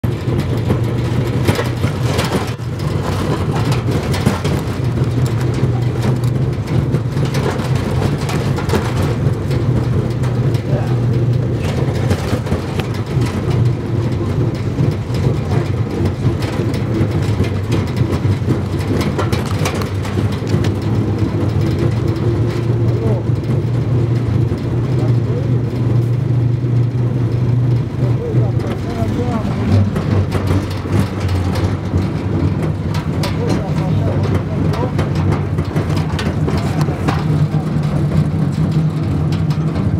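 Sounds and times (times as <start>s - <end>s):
cargo bed knocks and rattles: 0.0s - 39.9s
motorcycle engine running: 0.0s - 39.9s.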